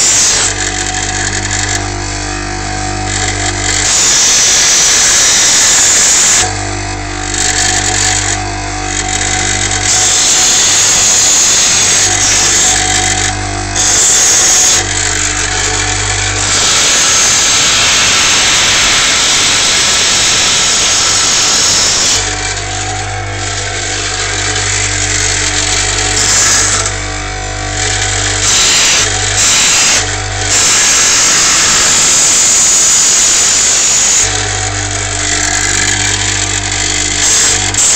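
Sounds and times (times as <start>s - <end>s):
electric power tool grinding metal: 0.0s - 37.9s.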